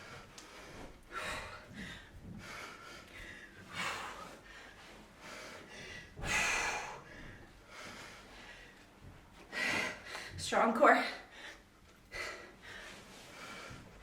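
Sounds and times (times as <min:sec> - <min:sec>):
woman breathing hard: 0:00.0 - 0:10.4, 0:11.2 - 0:14.0.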